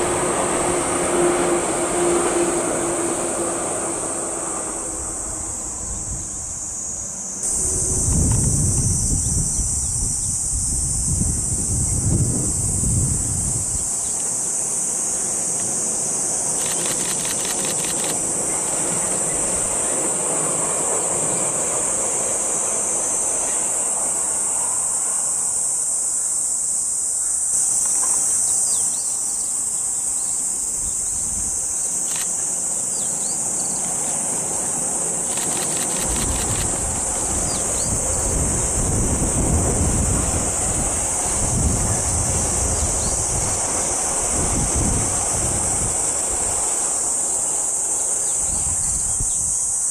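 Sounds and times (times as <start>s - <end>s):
train rumbling over viaduct: 0.0s - 27.4s, 29.0s - 49.9s
cicadas droning: 0.0s - 49.9s.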